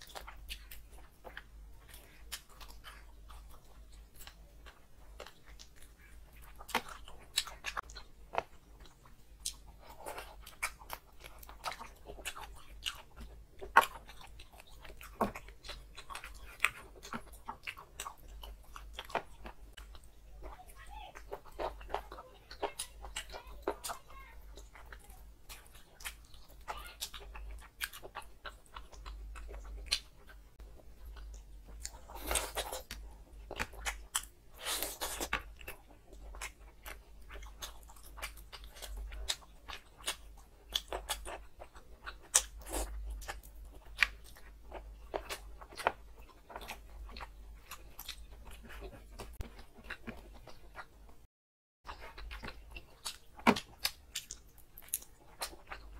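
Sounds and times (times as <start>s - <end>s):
person chewing and crunching: 0.0s - 51.2s, 51.9s - 55.9s.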